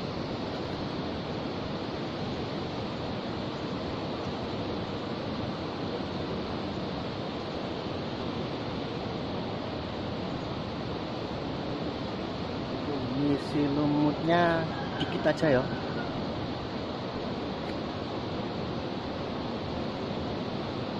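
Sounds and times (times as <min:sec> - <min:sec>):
river water flowing: 0:00.0 - 0:20.9.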